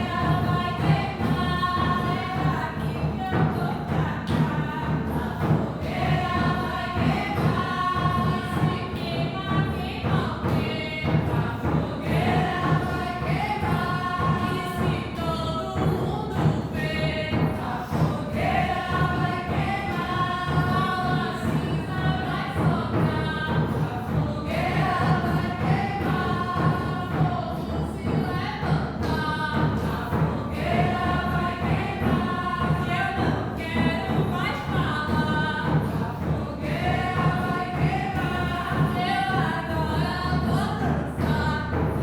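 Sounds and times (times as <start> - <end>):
group singing in harmony: 0.0 - 42.0.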